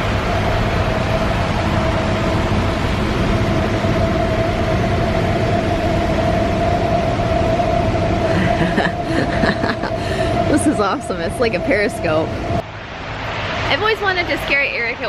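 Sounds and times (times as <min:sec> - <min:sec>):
rush of air: 0:00.0 - 0:13.8
mid-pitched machine hum: 0:00.0 - 0:15.0.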